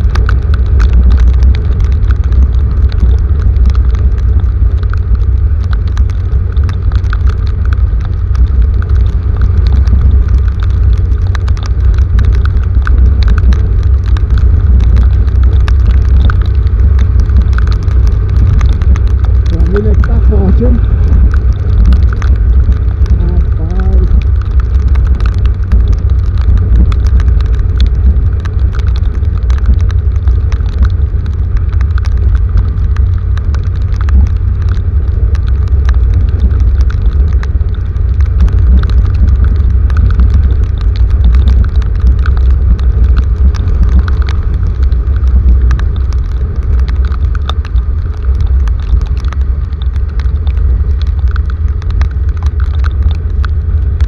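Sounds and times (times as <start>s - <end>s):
heavy rain falling: 0.0s - 54.0s
steady low rumble: 0.0s - 54.0s.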